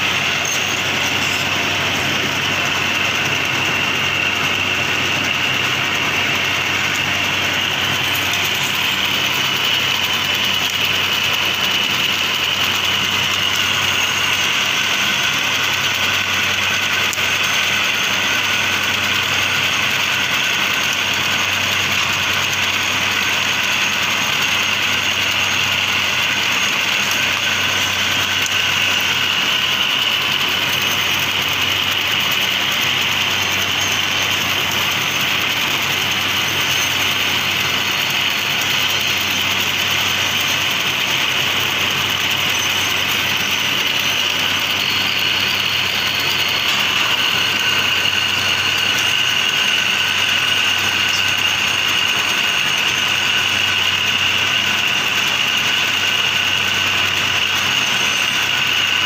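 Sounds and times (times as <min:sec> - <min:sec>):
machinery drone with high whine: 0:00.0 - 0:59.0.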